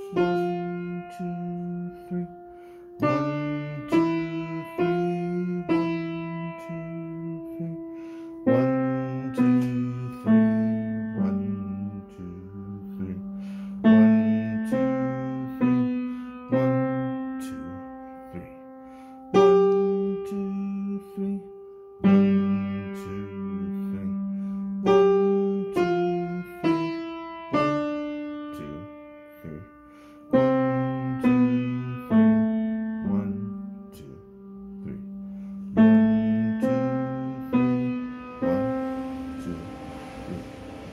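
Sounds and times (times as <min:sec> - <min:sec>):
slow piano piece: 0:00.0 - 0:40.9.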